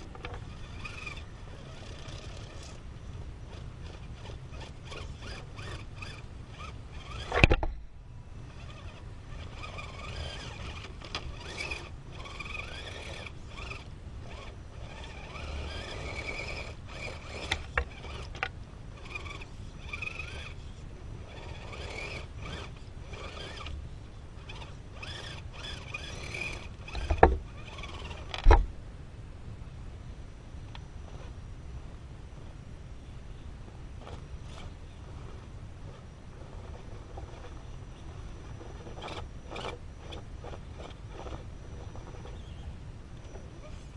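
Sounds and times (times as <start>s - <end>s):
electric motor whining: 0.0s - 7.7s, 8.4s - 28.6s, 34.0s - 43.9s
tyres scraping on rock: 0.0s - 7.7s, 8.5s - 23.8s, 24.4s - 28.5s, 34.0s - 43.9s.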